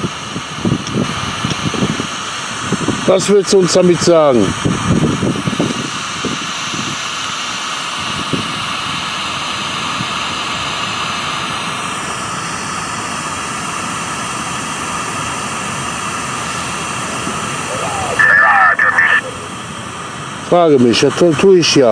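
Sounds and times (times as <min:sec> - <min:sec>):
white-noise static from phone speaker: 0:00.0 - 0:13.2, 0:15.0 - 0:21.9.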